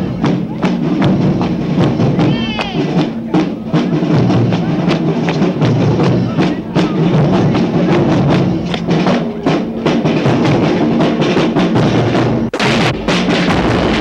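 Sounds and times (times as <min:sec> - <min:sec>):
drums beating: 0:00.0 - 0:14.0
marching band playing: 0:00.0 - 0:14.0.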